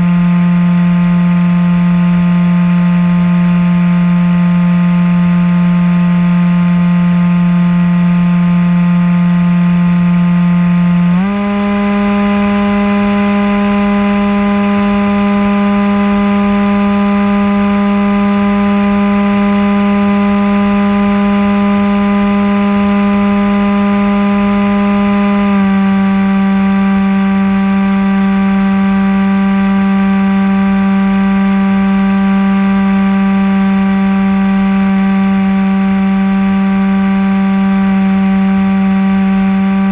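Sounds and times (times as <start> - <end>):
propeller motor buzzing drone: 0.0 - 39.9.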